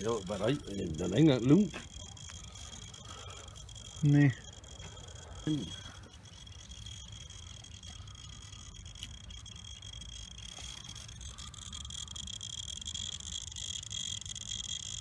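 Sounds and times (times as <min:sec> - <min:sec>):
high-pitched drone: 0:00.0 - 0:15.0.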